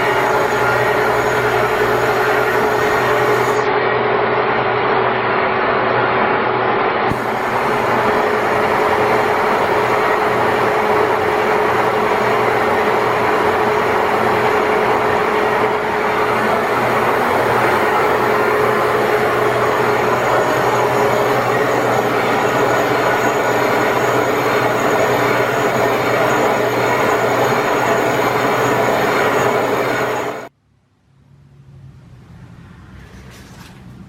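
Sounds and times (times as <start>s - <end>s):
constant machine hum: 0.0s - 30.5s.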